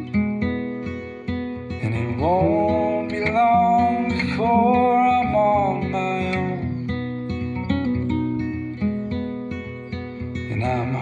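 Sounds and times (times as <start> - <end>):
acoustic guitar strummed and picked: 0.0 - 11.0.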